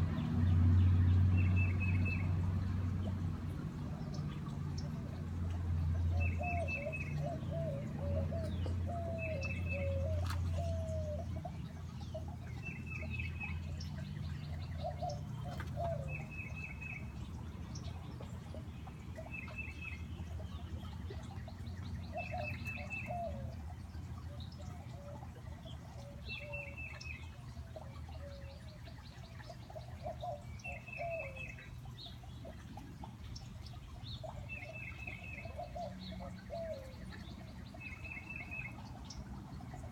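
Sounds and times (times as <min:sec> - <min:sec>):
garden fountain: 0:00.0 - 0:39.9
soft wavering bird calls: 0:03.0 - 0:39.9.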